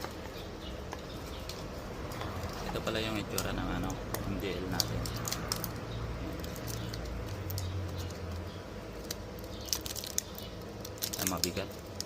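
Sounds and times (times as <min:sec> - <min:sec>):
light clicks and packaging rustling: 0:00.0 - 0:12.0
steady low hum: 0:00.0 - 0:12.0.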